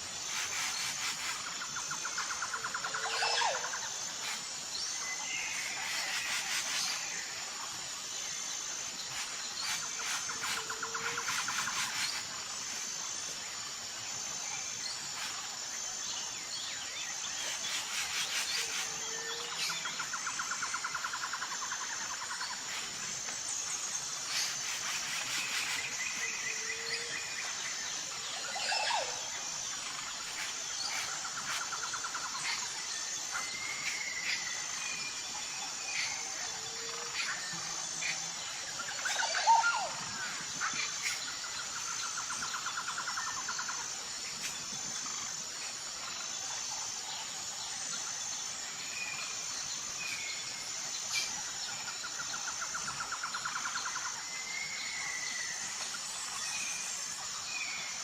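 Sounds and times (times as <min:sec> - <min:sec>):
high pulsing insect drone: 0:00.0 - 0:58.0.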